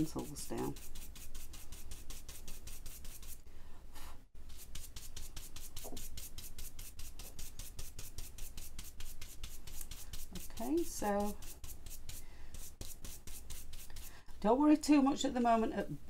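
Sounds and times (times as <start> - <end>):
brush rubbing on card: 0.0 - 3.4, 4.4 - 14.1.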